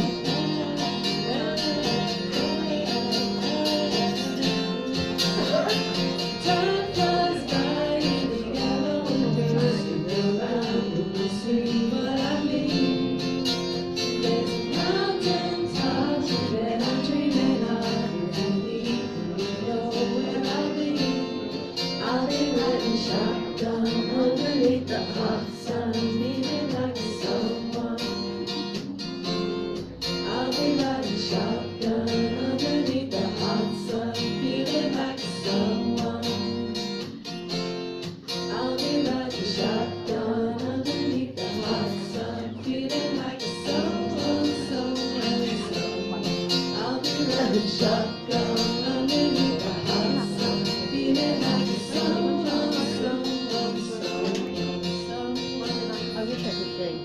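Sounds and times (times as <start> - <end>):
person singing: 0.0 - 37.6, 38.2 - 56.8
acoustic guitar strumming: 0.0 - 57.0.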